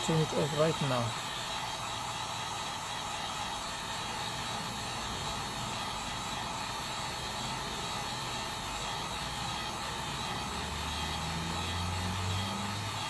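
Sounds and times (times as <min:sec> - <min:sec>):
heat gun blowing air: 0:00.0 - 0:13.0.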